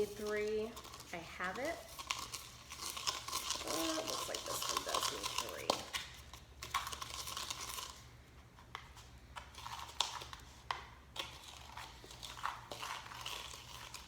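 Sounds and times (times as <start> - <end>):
bacon rustling: 0.0 - 14.0.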